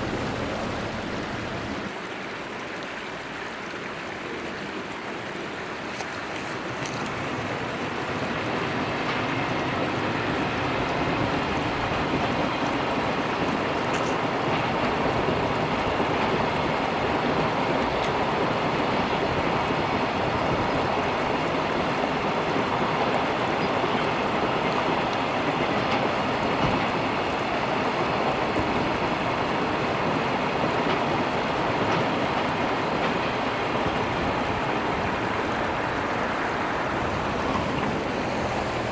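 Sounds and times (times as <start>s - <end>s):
freight train rumbling past: 0.0s - 2.3s, 6.6s - 38.9s
stream flowing over rocks: 0.0s - 38.9s.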